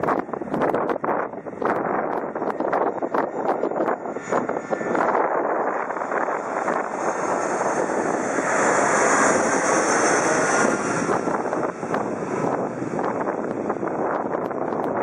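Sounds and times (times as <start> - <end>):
jet airliner roar overhead: 0.0 - 15.0.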